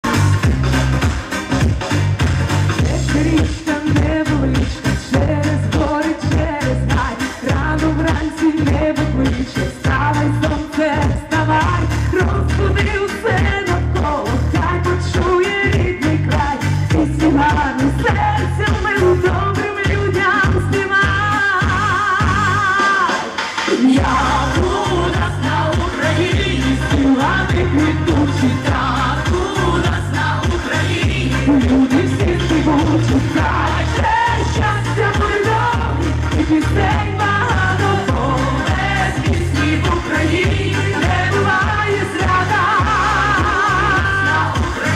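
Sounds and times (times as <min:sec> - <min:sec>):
amplified backing music: 0:00.0 - 0:44.9
pop song over loudspeakers: 0:00.0 - 0:44.9
woman singing into microphone: 0:02.8 - 0:44.9.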